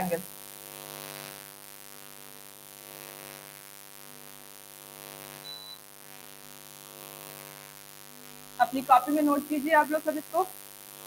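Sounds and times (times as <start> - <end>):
buzzing mains hum: 0.0 - 11.0.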